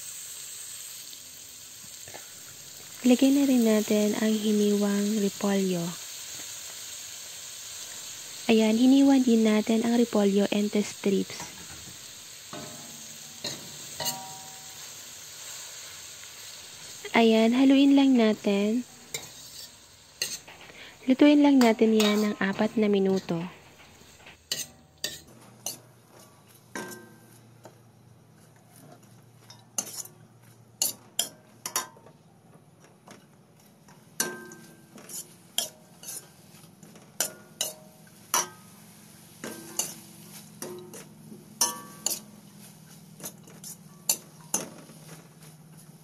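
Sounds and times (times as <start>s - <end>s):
spatula clacking and scraping wok: 1.9s - 27.8s, 28.4s - 32.1s, 32.8s - 46.0s.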